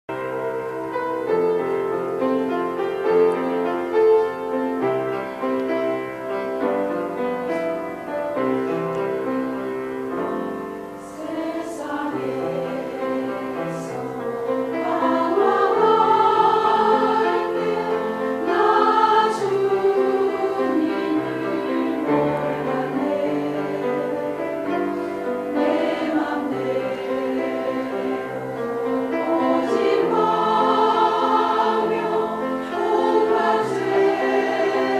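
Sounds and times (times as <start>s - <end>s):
choir singing sustained chords: 0.1s - 34.9s.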